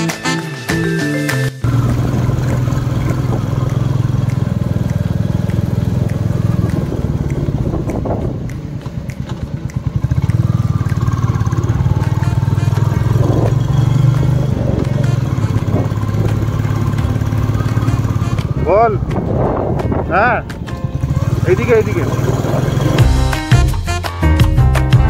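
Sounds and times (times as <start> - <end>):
motorcycle engine running: 1.6 - 23.8.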